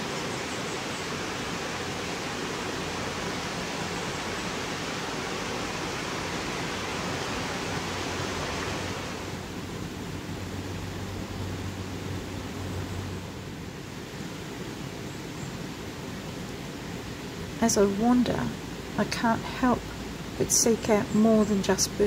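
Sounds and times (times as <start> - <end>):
creek water rushing: 0.0 - 22.0.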